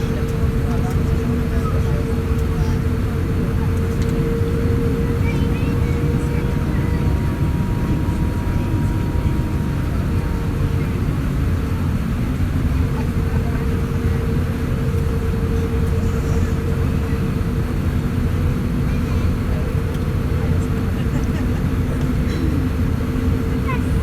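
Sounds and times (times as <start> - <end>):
aircraft cabin low rumble: 0.0 - 24.0.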